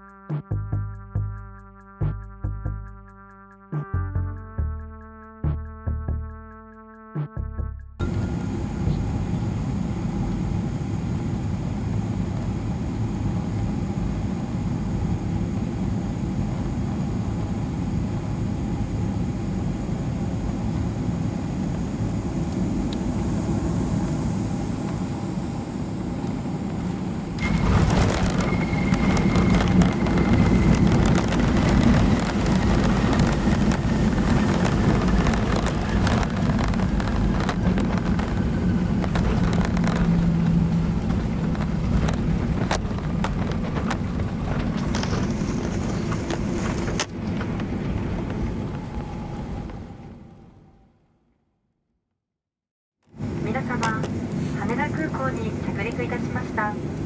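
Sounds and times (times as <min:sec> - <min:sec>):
runway rumble: 0:08.0 - 0:50.8, 0:53.2 - 0:57.0
airplane cabin engine drone: 0:08.0 - 0:51.1, 0:53.1 - 0:57.0.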